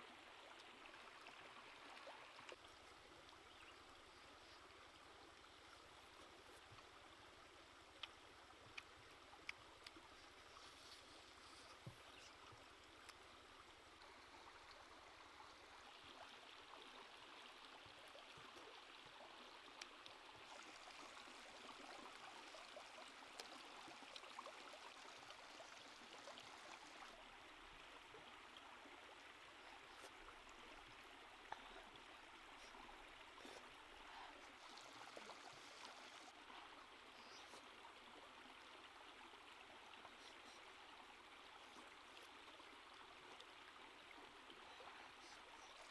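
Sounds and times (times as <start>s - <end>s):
faint stream hiss: 0.0s - 45.9s.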